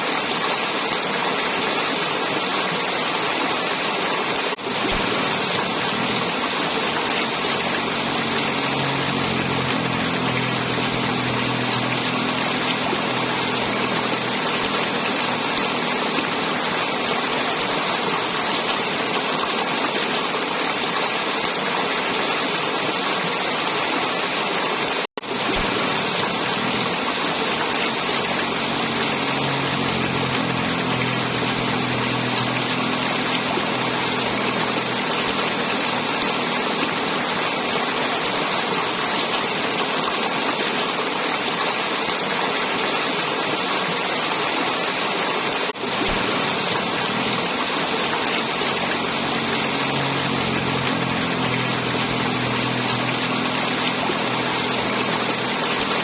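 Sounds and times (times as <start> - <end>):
river water flowing and gurgling: 0.0 - 56.0.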